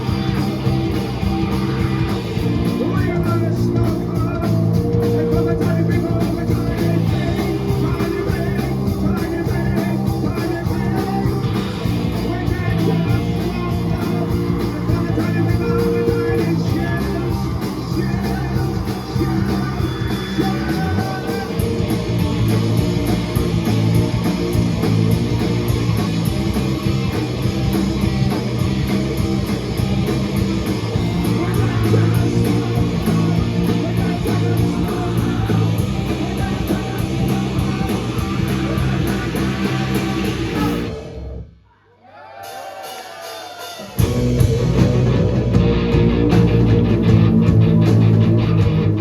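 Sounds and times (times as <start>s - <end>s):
heavy rock band playing: 0.0s - 41.4s, 42.4s - 49.0s.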